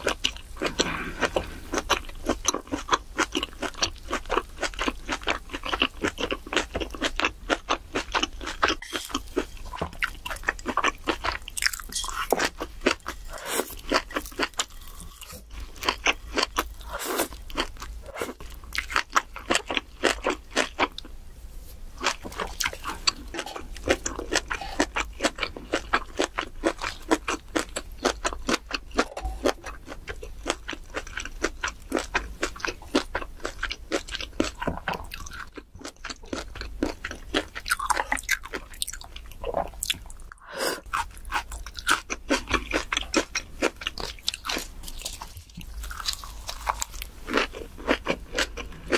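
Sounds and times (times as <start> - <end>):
chewing crisp leafy greens: 0.0 - 21.2, 22.0 - 48.9.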